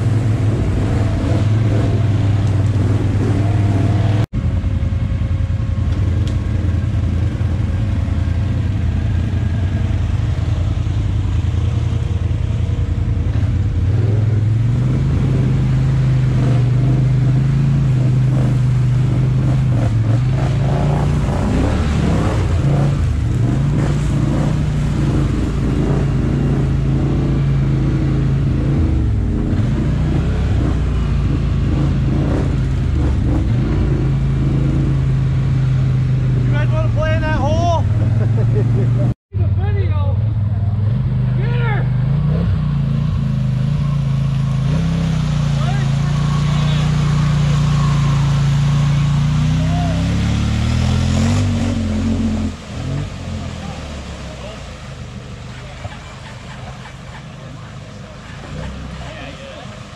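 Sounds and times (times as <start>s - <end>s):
atv engine running hard: 0.0s - 59.9s.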